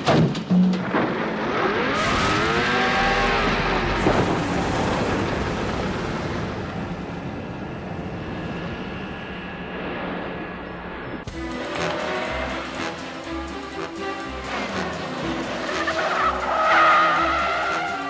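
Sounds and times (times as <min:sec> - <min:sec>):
car and speedboat engines: 0:00.9 - 0:18.0.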